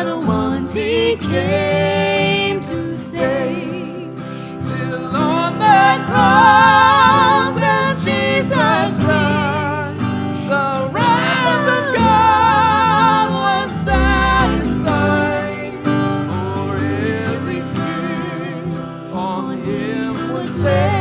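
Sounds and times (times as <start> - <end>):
person singing a hymn: 0.0 - 21.0.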